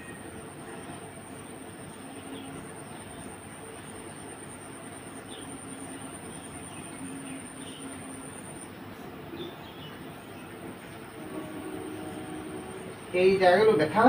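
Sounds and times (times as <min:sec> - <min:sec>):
high-pitched continuous trill: 0:00.0 - 0:14.0
room noise: 0:00.0 - 0:14.0.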